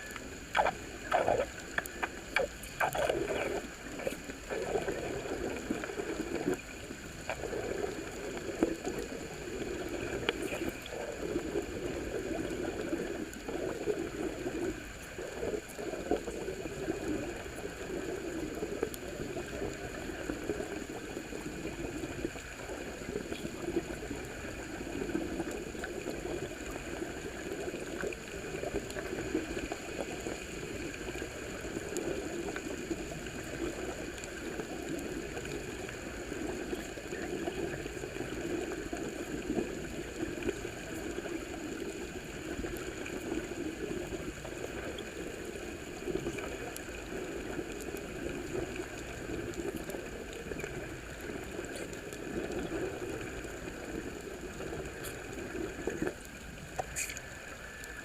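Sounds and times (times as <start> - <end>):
water bubbling underwater: 0.0 - 58.0.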